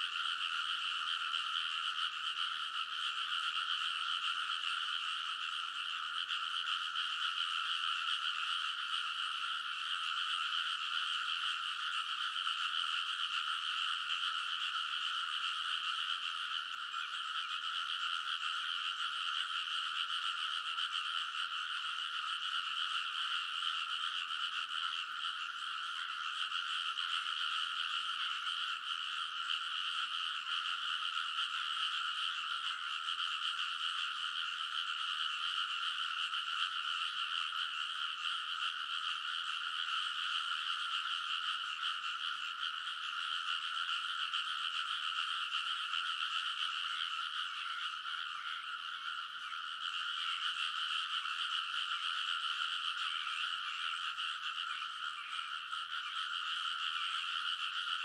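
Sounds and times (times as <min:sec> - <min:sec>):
frogs croaking in chorus: 0:00.0 - 0:58.0.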